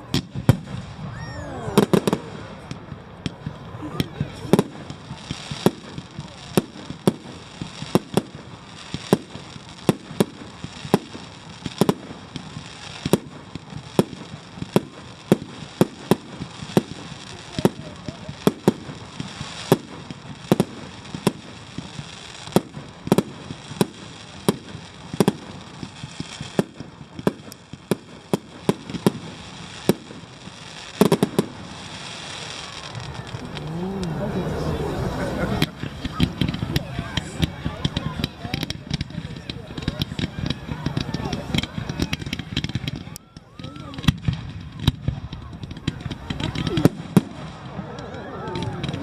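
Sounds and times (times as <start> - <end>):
fireworks bangs: 0.0 - 49.0.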